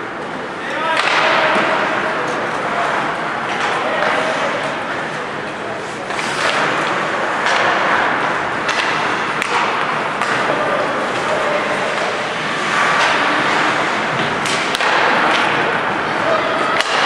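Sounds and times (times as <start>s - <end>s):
hockey sticks and puck clacking: 0.1s - 17.0s
skates on ice: 0.7s - 17.0s.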